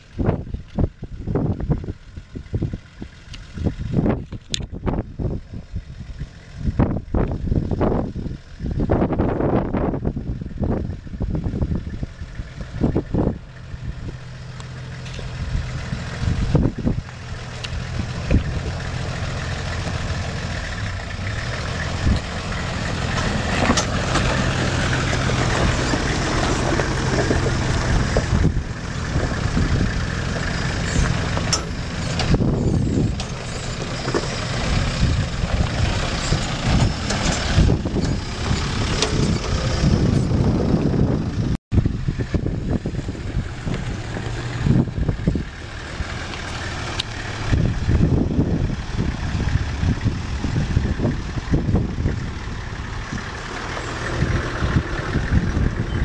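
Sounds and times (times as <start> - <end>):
off-road vehicle engines: 0.0 - 56.0.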